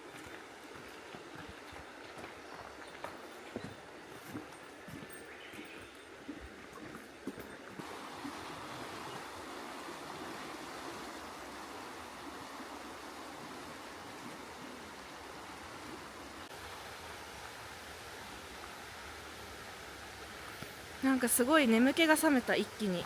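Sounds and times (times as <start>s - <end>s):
stream flowing over rocks: 0.0s - 23.0s.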